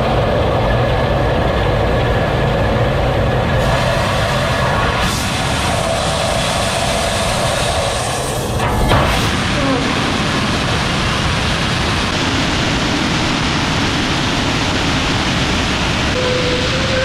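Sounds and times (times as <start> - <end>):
large engine running: 0.0 - 17.0.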